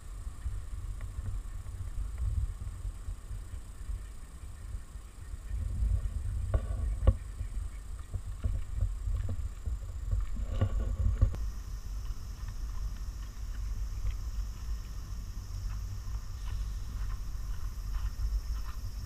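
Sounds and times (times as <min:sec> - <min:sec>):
low microphone rumble: 0:00.0 - 0:19.0.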